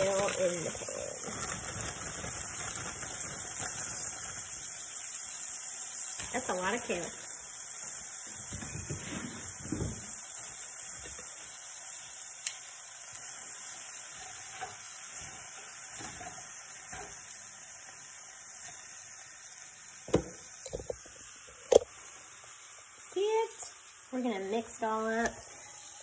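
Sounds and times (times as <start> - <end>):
kale sizzling in a frying pan: 0.0 - 26.0.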